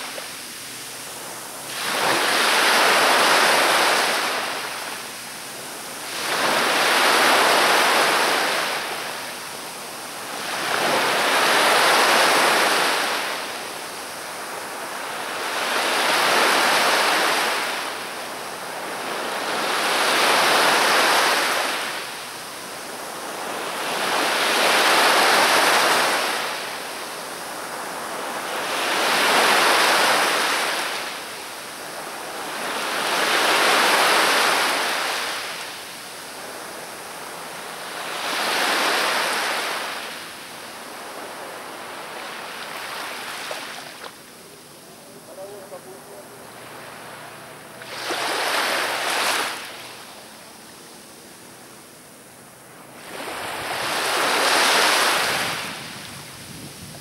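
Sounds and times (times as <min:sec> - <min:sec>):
waves washing onto shore: 0:00.0 - 0:57.0.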